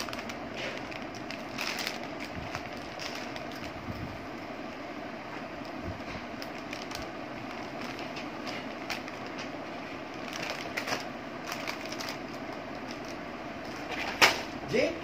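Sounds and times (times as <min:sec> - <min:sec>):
plastic chip bag crackling: 0:00.0 - 0:04.4, 0:05.5 - 0:13.9.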